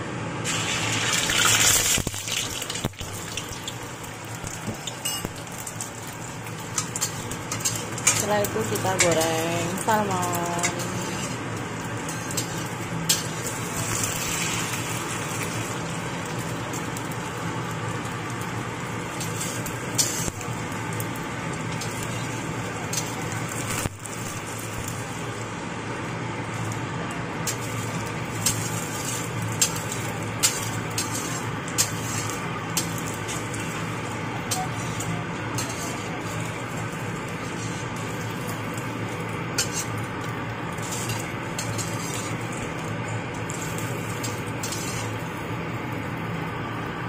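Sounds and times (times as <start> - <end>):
omelette sizzling in hot oil: 0.4 - 47.0
steady low hum: 2.8 - 47.0.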